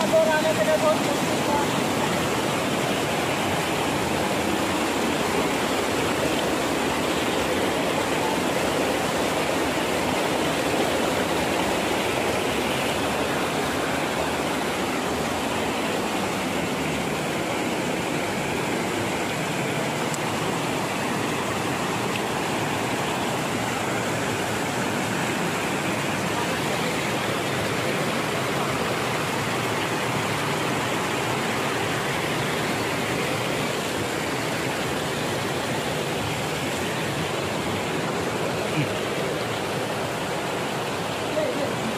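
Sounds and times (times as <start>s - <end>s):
stream rushing over cascades: 0.0s - 41.9s.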